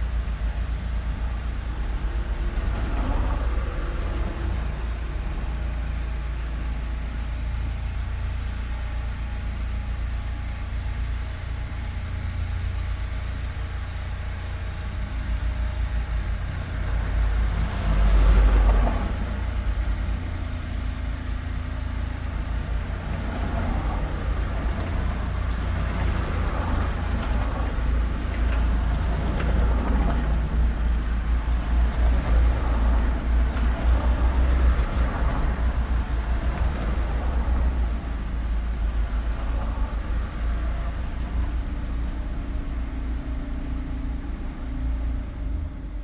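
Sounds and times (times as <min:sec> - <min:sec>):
traffic rumble: 0:00.0 - 0:46.0.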